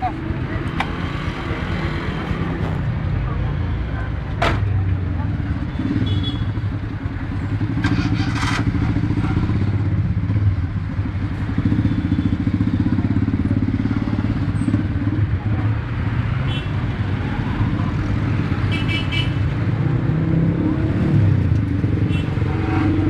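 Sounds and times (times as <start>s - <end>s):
vehicle engines in traffic: 0.0s - 23.0s.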